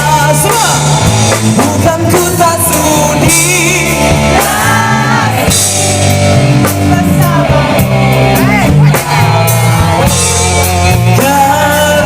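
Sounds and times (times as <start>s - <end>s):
person singing: 0.0s - 5.8s, 6.4s - 12.0s
drum kit: 0.0s - 12.0s
guitar: 0.0s - 12.0s.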